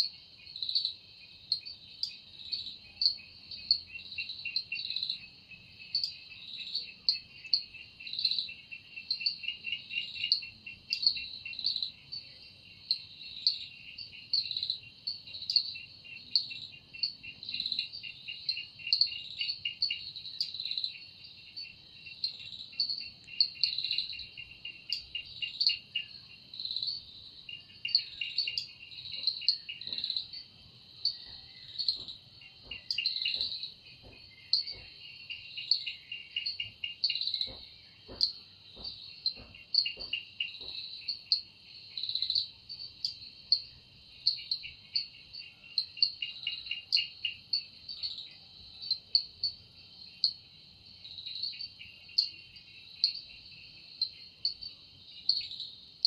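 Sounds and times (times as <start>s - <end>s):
insects chirping: 0.0s - 56.0s
pulsing insect trill: 0.0s - 56.0s.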